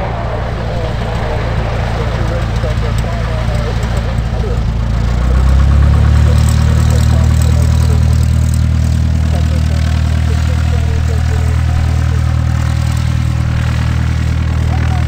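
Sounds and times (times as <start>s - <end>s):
propeller plane engine taxiing: 0.0s - 15.0s.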